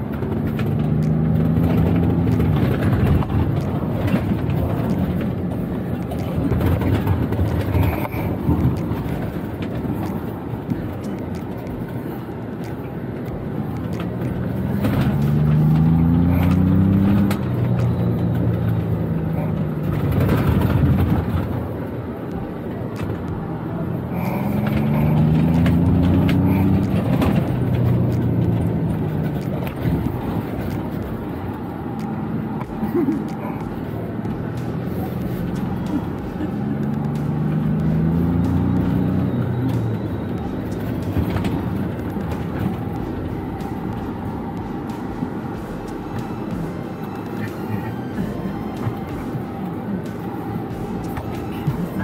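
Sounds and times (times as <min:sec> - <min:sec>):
engine accelerating hard: 0:00.0 - 0:52.0
steady rushing noise: 0:00.0 - 0:52.0.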